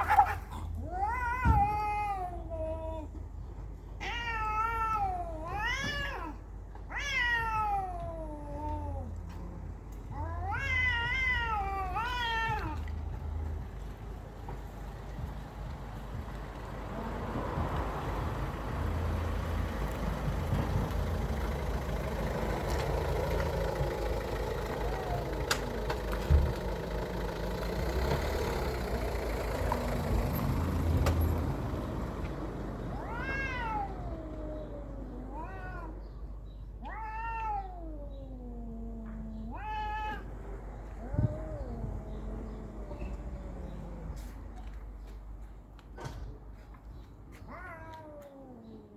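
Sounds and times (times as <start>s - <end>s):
cats yowling: 0.0s - 3.3s, 4.0s - 13.5s, 16.9s - 27.7s, 28.4s - 44.7s, 47.4s - 48.9s.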